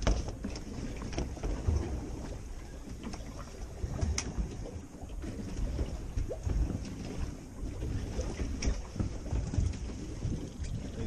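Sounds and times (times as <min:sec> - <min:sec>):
boat engine rumble: 0:00.0 - 0:11.0
wind on microphone: 0:00.0 - 0:11.0.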